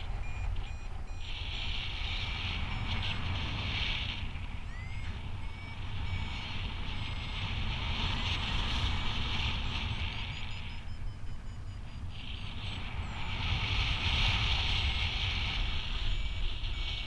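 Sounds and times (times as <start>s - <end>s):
short electronic beeps: 0.0s - 17.0s
wind rushing over microphone: 0.0s - 17.0s.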